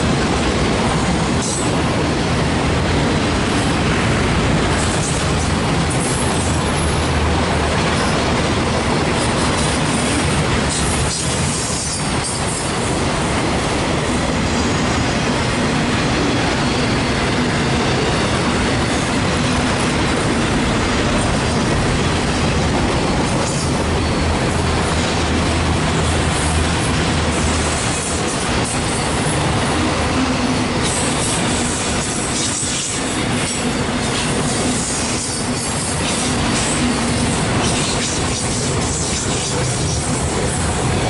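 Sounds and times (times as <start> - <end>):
steel wheels running on rails: 0.0 - 41.0.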